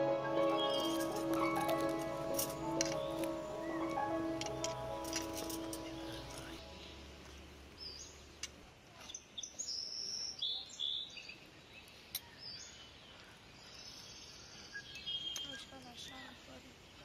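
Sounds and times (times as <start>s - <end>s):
small birds chirping: 0.5s - 17.0s.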